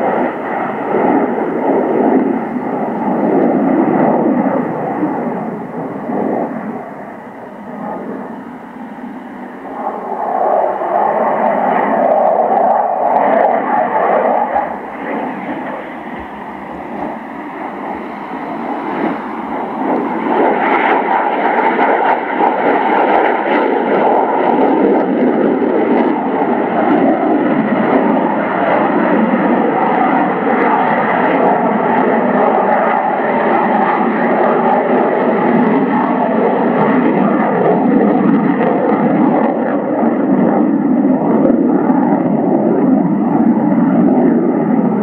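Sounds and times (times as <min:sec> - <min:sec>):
fighter jet engine roaring: 0:00.0 - 0:45.0.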